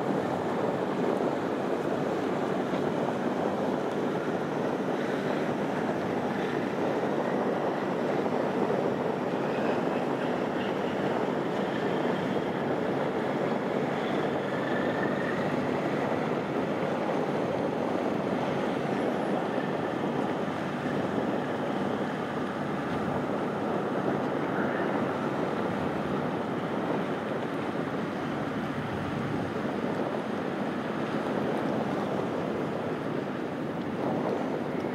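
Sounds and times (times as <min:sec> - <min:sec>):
water noise: 0:00.0 - 0:34.9
wind: 0:00.0 - 0:34.9.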